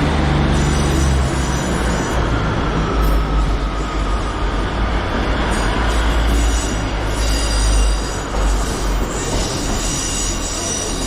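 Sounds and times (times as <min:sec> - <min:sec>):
train engines revving: 0:00.0 - 0:11.0.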